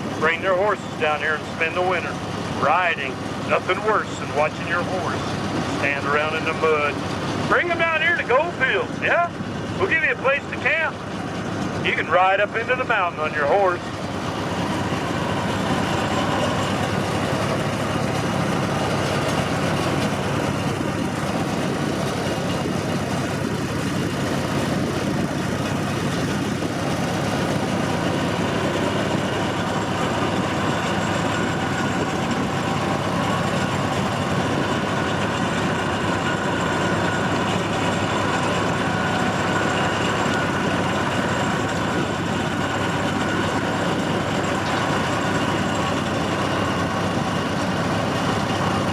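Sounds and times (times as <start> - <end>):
locomotive engine drone: 0.0 - 48.9
train rolling noise: 0.0 - 48.9.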